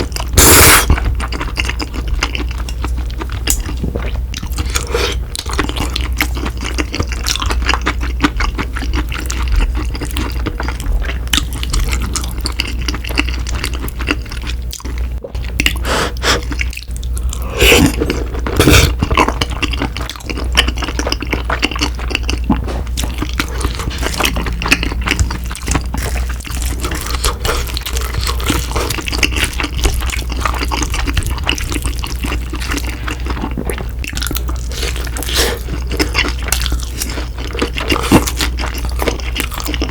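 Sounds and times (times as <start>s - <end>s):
wet chewing and mouth sounds: 0.0s - 39.9s.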